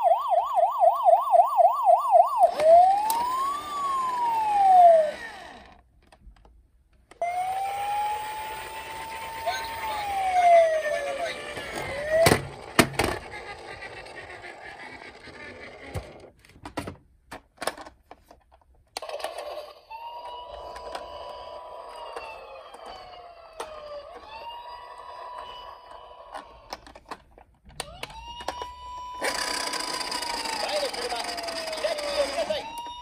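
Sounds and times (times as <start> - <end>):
toy siren wailing: 0.0 - 5.8, 7.2 - 16.0, 19.0 - 27.0, 27.8 - 33.0.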